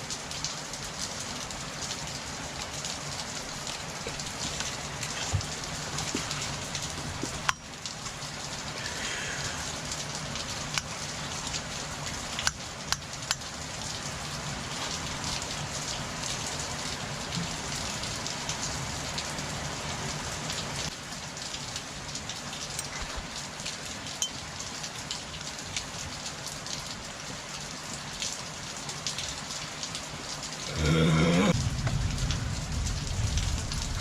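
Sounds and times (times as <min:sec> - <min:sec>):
steady rain-like hiss: 0:00.0 - 0:34.0.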